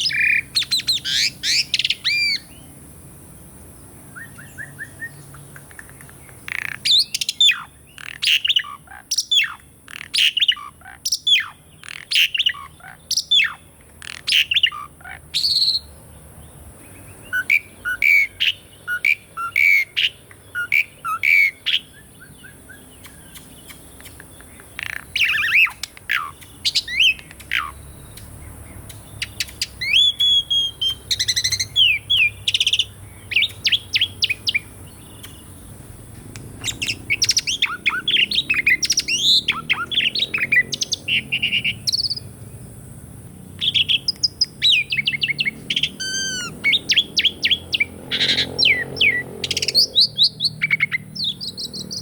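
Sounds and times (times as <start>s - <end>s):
starling whistling and chattering: 0.0s - 2.6s, 4.1s - 15.9s, 17.2s - 35.8s, 36.4s - 42.3s, 43.6s - 52.0s.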